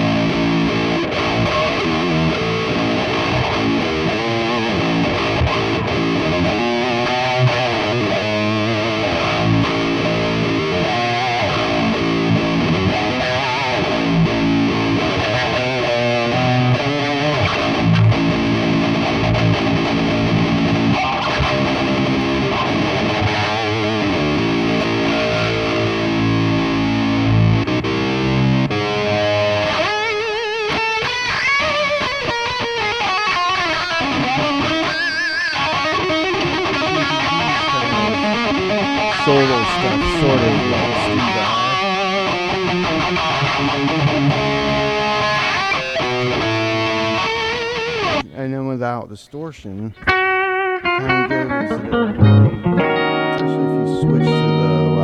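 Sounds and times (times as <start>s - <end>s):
distorted electric guitar riffs: 0.0s - 48.6s, 49.8s - 55.0s.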